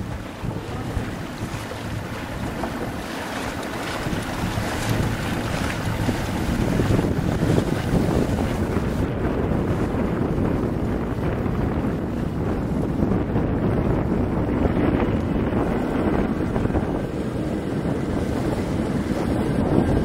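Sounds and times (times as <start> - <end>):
choppy water splashing: 0.0 - 20.0
wind buffeting microphone: 0.0 - 20.0.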